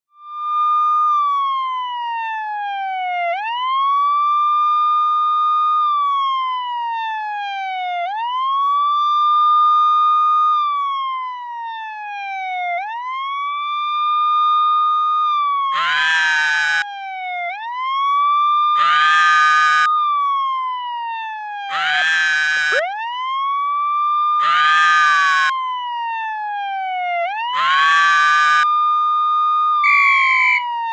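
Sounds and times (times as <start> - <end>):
electronic siren-like wail: 0.1 - 30.9.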